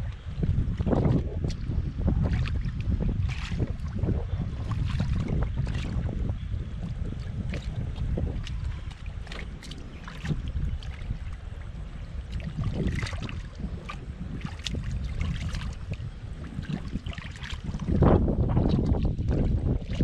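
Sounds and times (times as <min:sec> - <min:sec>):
splashing in muddy puddle: 0:00.0 - 0:20.0
wind rumble on microphone: 0:00.0 - 0:20.0.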